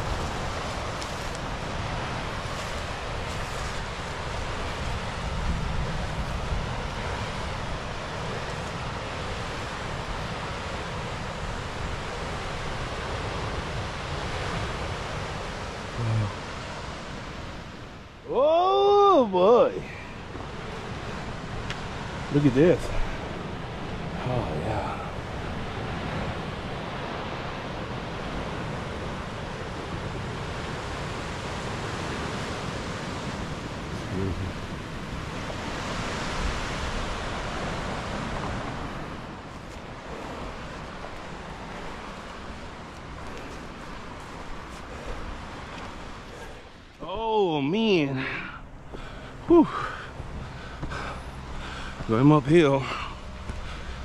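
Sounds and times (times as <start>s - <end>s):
surf breaking over rocks: 0.0s - 54.0s
wind buffeting microphone: 0.0s - 54.0s.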